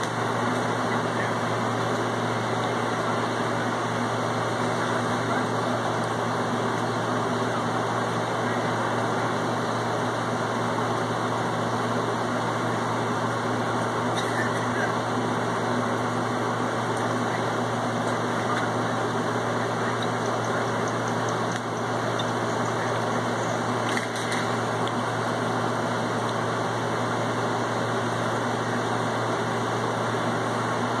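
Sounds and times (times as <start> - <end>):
constant rushing noise: 0.0 - 31.0
steady mechanical hum: 0.0 - 31.0.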